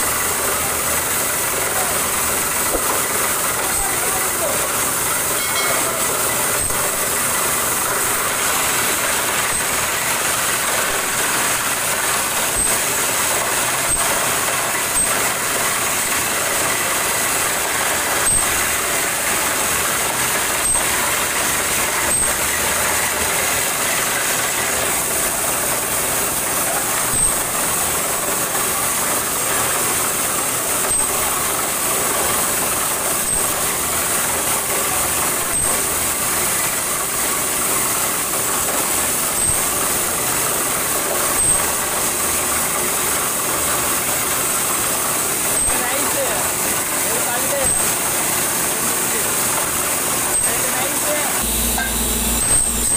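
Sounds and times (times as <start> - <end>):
drilling rig running with hiss: 0.0 - 52.9.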